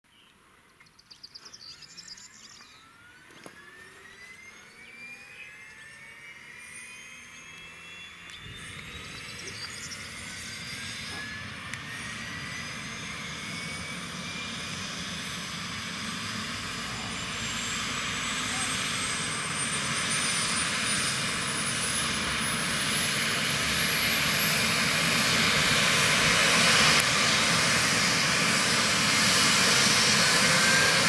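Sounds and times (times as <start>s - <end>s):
turbine engine whine: 0.4s - 31.0s.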